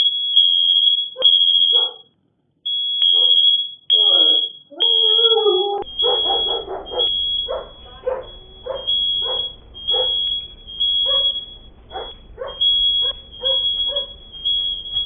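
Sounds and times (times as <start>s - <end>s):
smoke alarm tone: 0.0s - 2.0s, 2.7s - 15.0s
dog barking: 1.1s - 2.1s, 3.1s - 14.2s.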